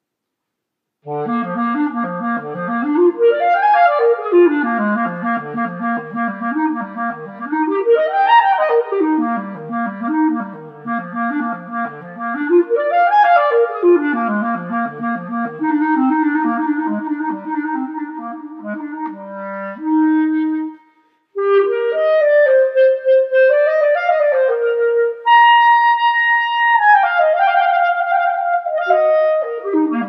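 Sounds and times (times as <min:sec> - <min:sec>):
clarinet playing fast runs: 0:01.1 - 0:30.0.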